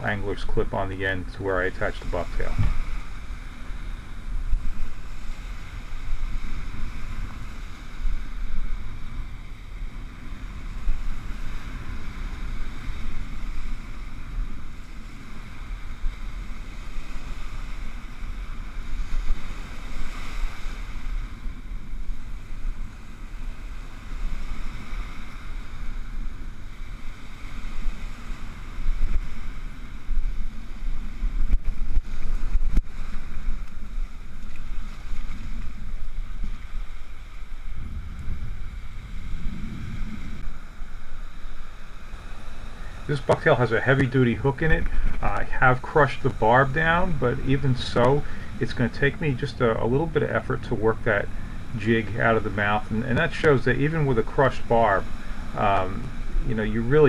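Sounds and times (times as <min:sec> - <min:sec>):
surf washing up beach: 0:00.0 - 0:57.0
wind rumbling on microphone: 0:00.0 - 0:57.0.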